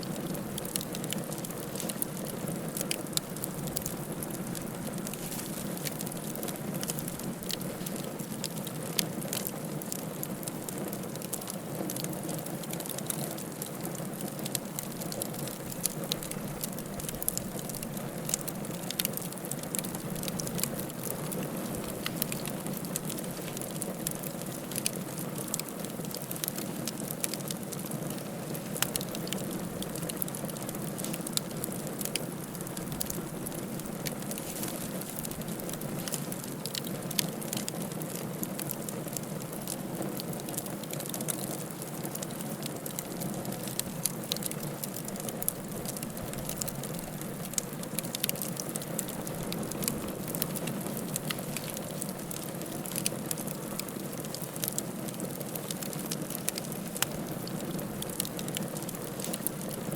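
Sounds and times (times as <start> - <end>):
fire burning with crackles: 0.0 - 59.9.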